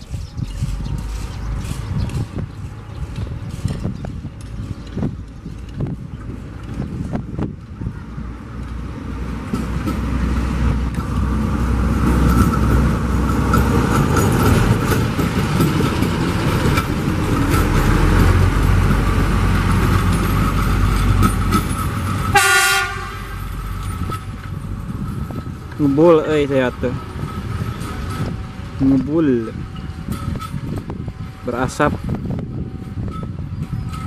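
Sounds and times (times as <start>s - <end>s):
diesel engine rumble: 0.0s - 34.0s
wheels rattling on rails: 0.0s - 34.0s.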